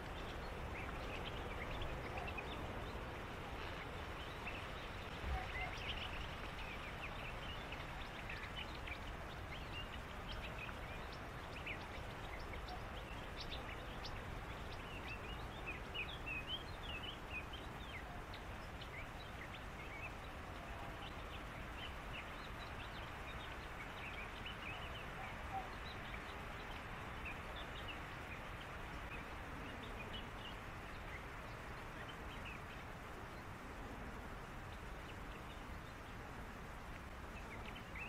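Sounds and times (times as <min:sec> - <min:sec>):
low hiss and rumble: 0:00.0 - 0:38.0.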